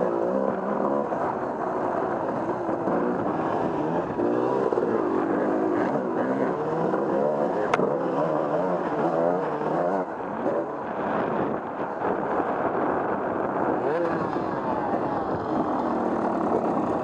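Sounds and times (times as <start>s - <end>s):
off-road vehicle engine revving: 0.0s - 11.7s, 13.7s - 17.0s.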